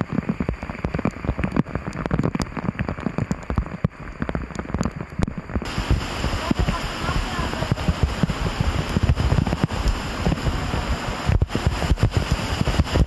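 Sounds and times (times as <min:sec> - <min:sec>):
heavy rain on hard surface: 0:00.0 - 0:13.0.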